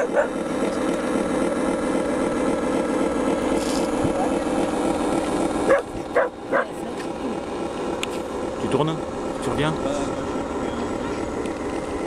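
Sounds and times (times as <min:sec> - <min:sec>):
simulated diesel engine drone: 0:00.0 - 0:12.0.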